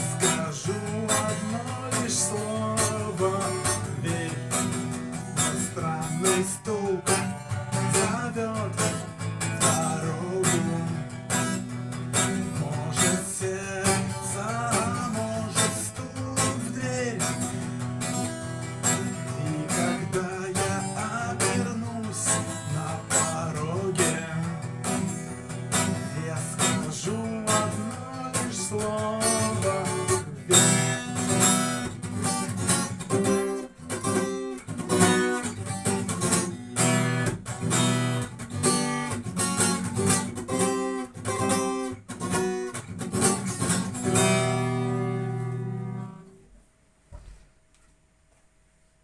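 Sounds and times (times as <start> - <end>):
guitar strumming: 0.0 - 46.5.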